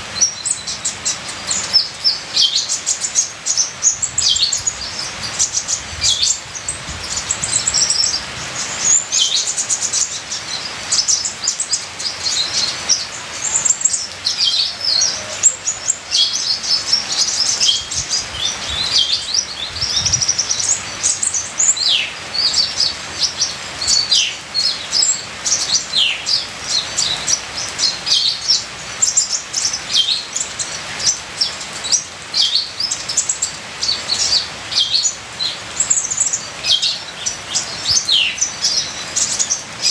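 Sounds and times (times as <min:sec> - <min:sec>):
bird singing high chirps: 0:00.0 - 0:39.9
trickling rain water: 0:00.0 - 0:39.9.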